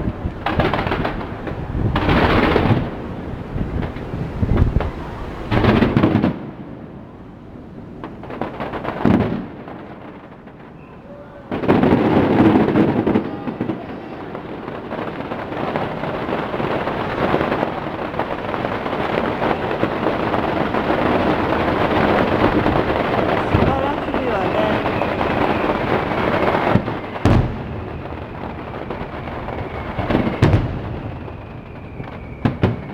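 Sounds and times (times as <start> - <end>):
fireworks bangs and crackling: 0.0 - 32.9
fireworks booming: 0.0 - 32.9.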